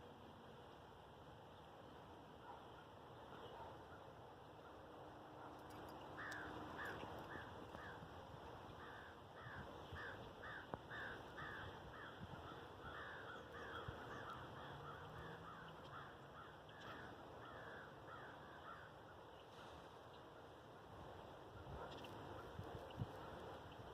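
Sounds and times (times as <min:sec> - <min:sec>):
steady outdoor hiss: 0:00.0 - 0:23.9.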